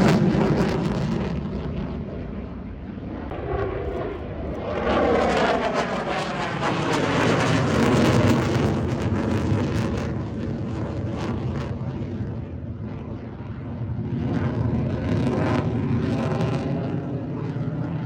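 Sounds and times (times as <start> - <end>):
jet aircraft engine rumble: 0.0 - 18.0.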